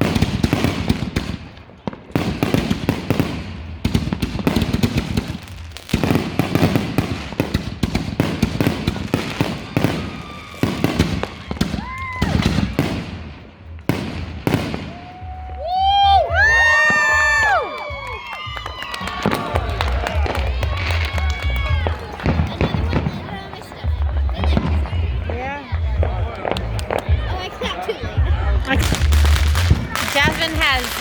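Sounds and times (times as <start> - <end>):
whistling fireworks: 0.0 - 27.9, 28.6 - 31.0
fireworks cracking and popping: 0.0 - 31.0.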